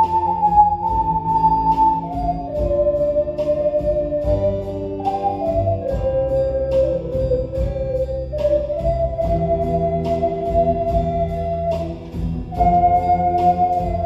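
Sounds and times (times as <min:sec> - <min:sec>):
backing accompaniment with beat: 0:00.0 - 0:14.0
ocarinas playing slow melody: 0:00.0 - 0:14.0.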